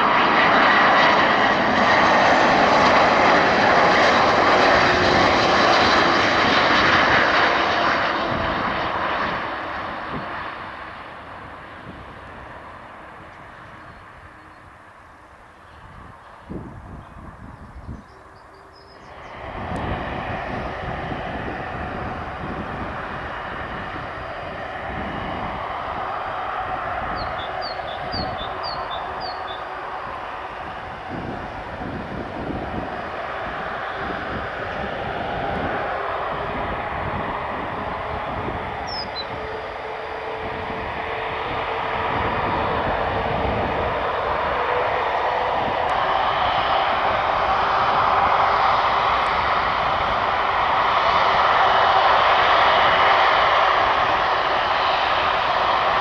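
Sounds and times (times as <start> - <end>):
jet engines rushing: 0.0 - 56.0.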